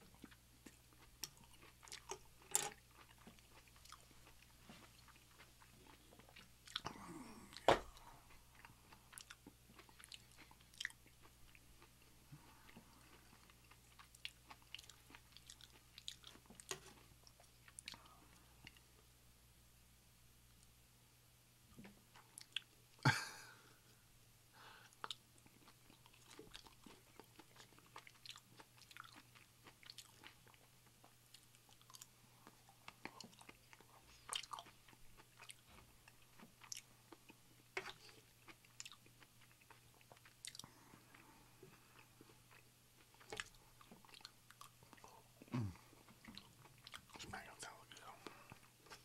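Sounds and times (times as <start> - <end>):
close chewing and mouth sounds: 0.0 - 19.1, 21.7 - 23.0, 24.8 - 49.0.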